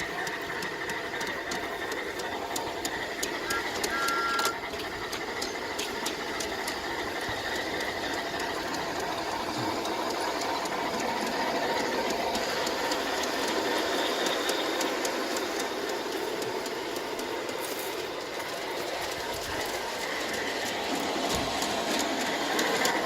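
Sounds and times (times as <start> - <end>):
model train motor hum: 0.0 - 23.0
wheels clicking on rails: 0.0 - 23.0.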